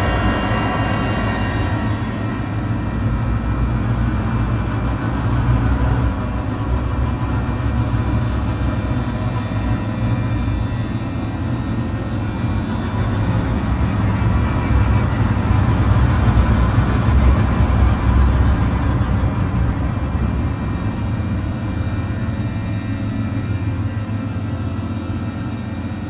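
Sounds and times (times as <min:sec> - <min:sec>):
low rumbling drone: 0:00.0 - 0:26.0.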